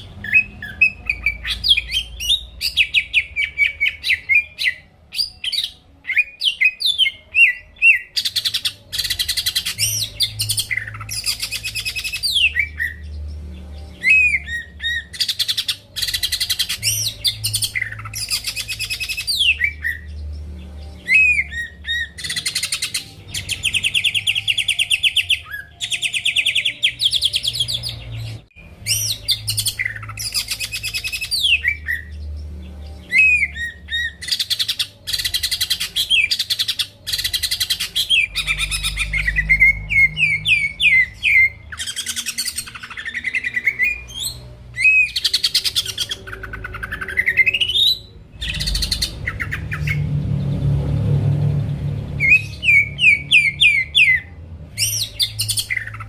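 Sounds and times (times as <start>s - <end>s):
bird singing whistles and trills: 0.0s - 50.8s, 51.8s - 56.0s.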